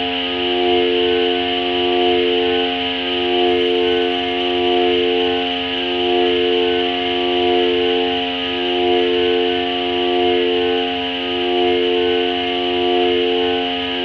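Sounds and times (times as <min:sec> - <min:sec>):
ambient synthesizer drone chord: 0:00.0 - 0:14.0.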